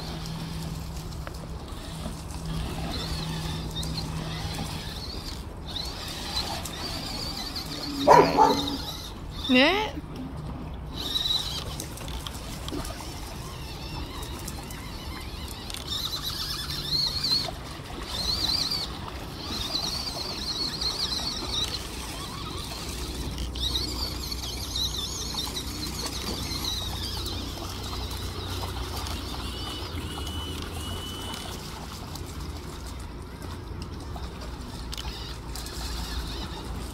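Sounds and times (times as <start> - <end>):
toy car electric motor whining: 0.0 - 9.8, 10.9 - 36.9.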